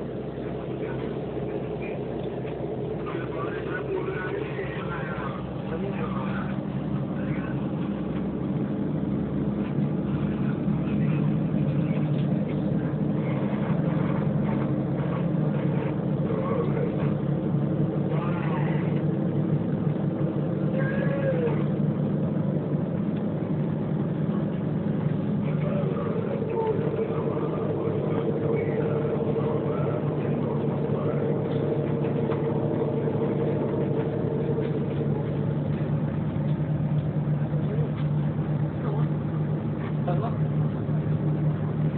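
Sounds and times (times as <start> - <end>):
faint murmuring voices: 0.0 - 41.9
ferry engines humming: 0.0 - 41.9.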